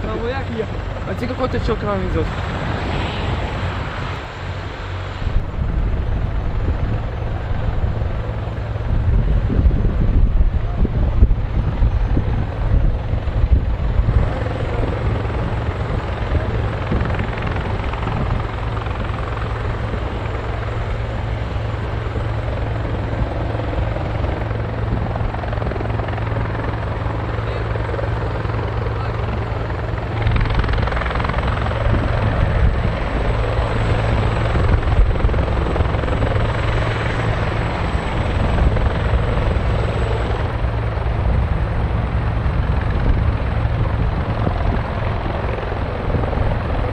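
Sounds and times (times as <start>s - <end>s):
helicopter rotor drone: 0.0s - 46.9s
helicopter turbine noise: 0.0s - 46.9s.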